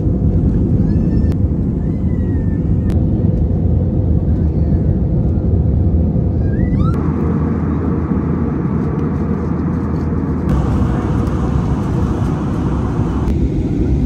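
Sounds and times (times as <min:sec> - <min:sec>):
jet engine rumble in cabin: 0:00.0 - 0:14.0.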